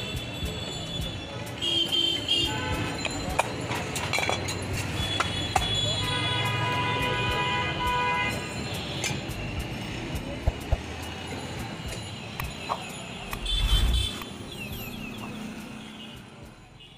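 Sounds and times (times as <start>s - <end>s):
background music: 0.0s - 16.7s
vehicles going by: 0.0s - 16.9s.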